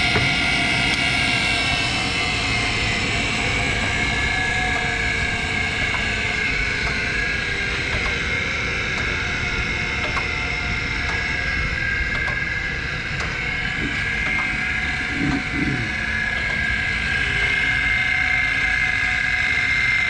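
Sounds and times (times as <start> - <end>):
grinder machine hum and whine: 0.0 - 20.0.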